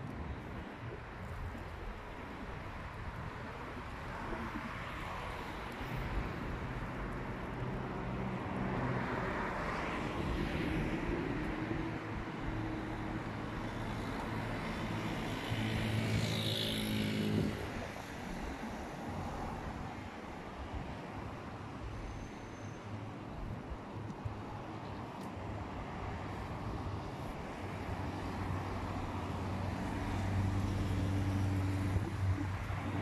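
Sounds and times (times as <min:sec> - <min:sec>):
traffic passing: 0:02.8 - 0:33.0.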